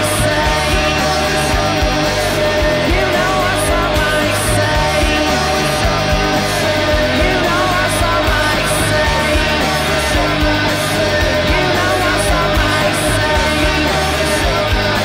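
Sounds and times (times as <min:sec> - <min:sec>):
electric guitar: 0:00.0 - 0:15.0
rock music: 0:00.0 - 0:15.0.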